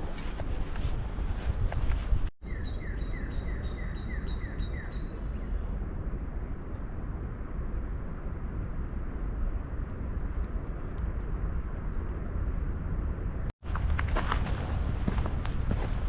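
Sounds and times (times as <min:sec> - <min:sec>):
low rumble of wind: 0:00.0 - 0:16.0.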